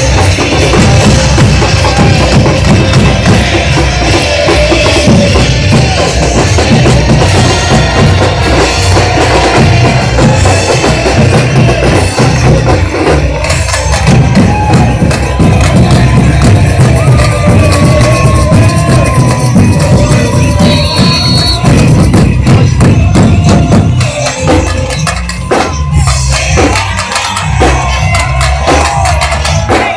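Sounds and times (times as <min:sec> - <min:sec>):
samba drum section playing: 0:00.0 - 0:29.9.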